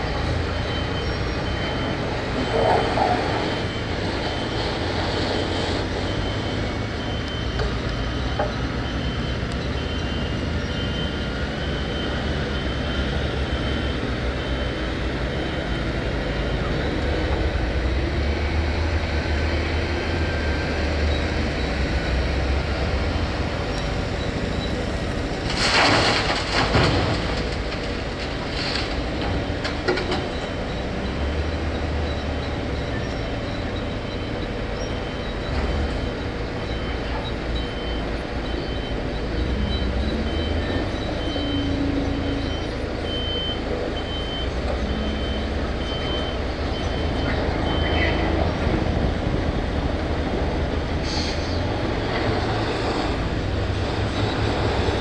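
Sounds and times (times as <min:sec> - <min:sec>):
diesel machinery droning: 0:00.0 - 0:55.0
reversing alarm beeping: 0:00.0 - 0:55.0.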